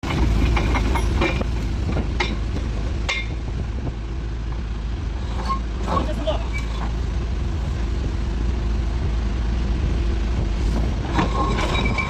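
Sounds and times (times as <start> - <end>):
excavator engine rumbling: 0.0 - 12.0.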